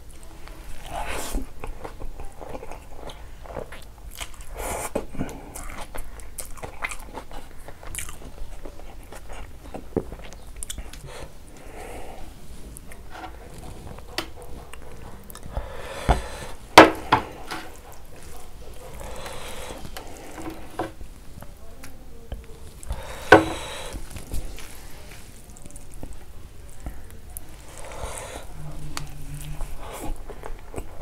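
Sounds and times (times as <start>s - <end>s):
person chewing and smacking: 0.0s - 11.8s, 12.7s - 31.0s.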